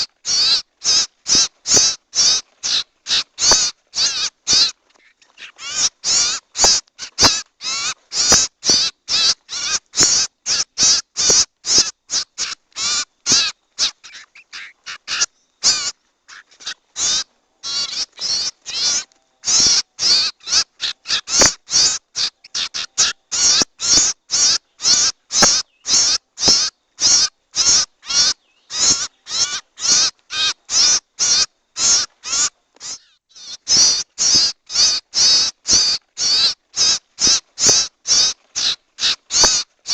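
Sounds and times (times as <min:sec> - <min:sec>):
harsh raspy bird calls: 0:00.0 - 0:39.9.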